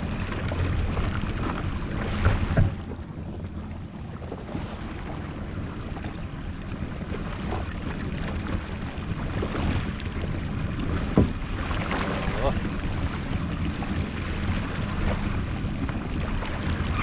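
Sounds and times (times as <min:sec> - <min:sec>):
jet ski engine running: 0:00.0 - 0:17.0
water washing around hull: 0:00.0 - 0:17.0
wind on microphone: 0:00.0 - 0:17.0.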